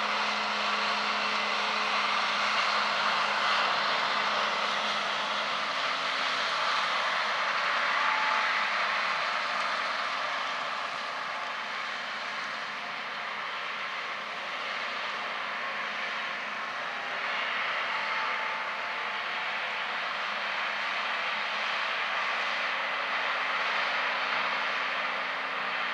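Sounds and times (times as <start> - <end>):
harvest machinery running: 0.0 - 25.9.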